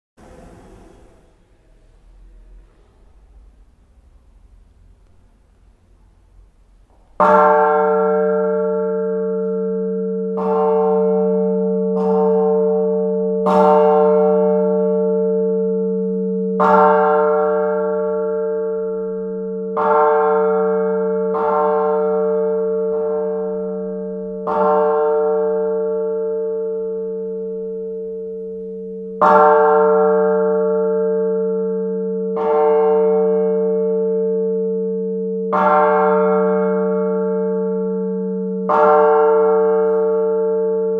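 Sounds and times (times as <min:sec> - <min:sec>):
church bell tolling: 0:00.2 - 0:40.9.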